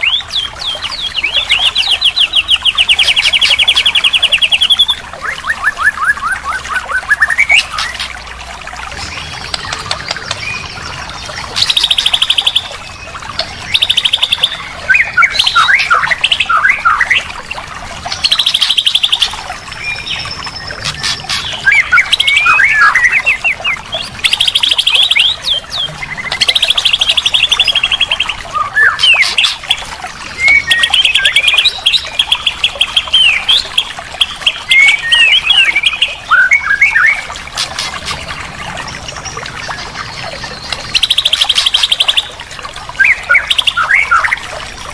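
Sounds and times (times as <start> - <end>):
bird song with trills and whistles: 0.0 - 8.2, 8.9 - 17.4, 18.1 - 44.6.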